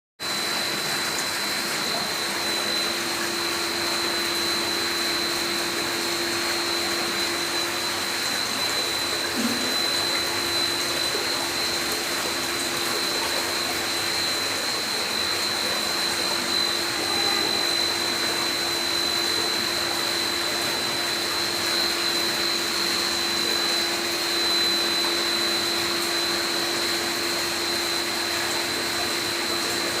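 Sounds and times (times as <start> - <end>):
high whine: 0.2 - 30.0.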